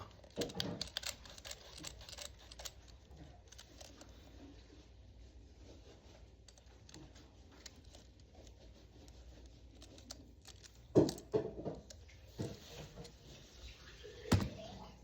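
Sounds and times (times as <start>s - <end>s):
objects clicking and rustling: 0.0s - 4.6s, 6.0s - 15.0s.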